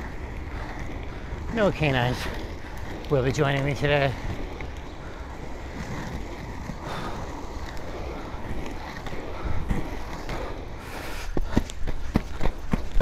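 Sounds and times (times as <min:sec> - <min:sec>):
skate wheels rolling on pavement: 0:00.0 - 0:13.0.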